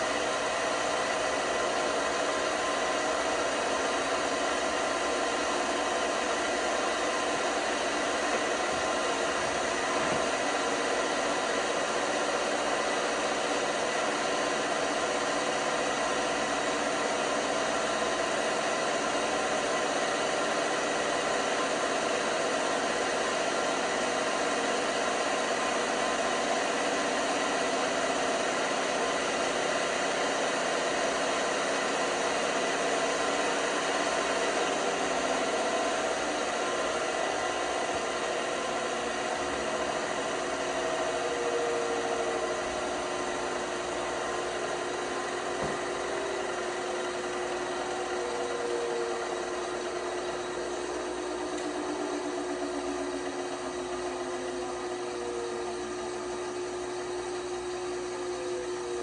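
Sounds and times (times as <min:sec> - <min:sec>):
washing machine humming: 0:00.0 - 0:59.0.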